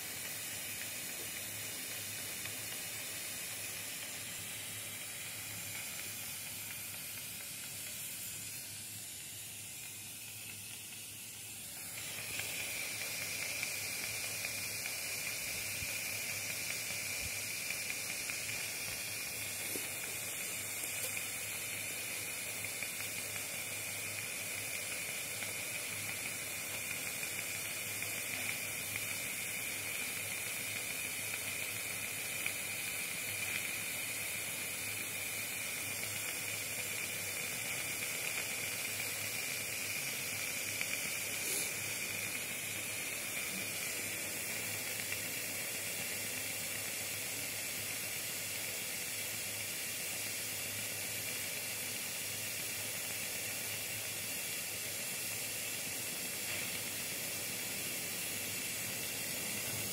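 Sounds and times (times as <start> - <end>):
steam hissing through a hose: 0.0 - 59.9.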